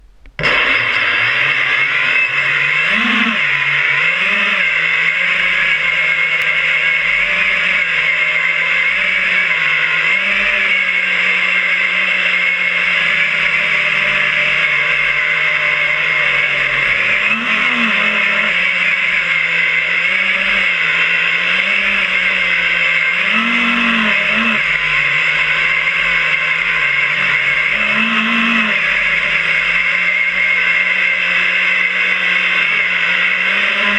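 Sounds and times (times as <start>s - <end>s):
quadcopter motors and propellers: 0.3s - 33.9s.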